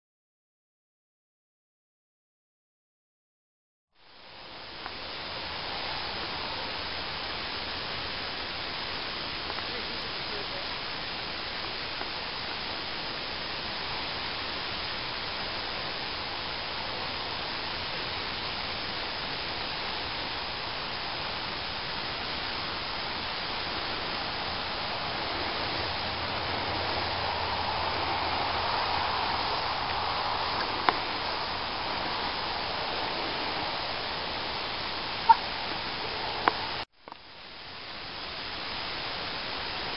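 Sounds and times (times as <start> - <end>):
steady hiss: 4.0 - 39.9.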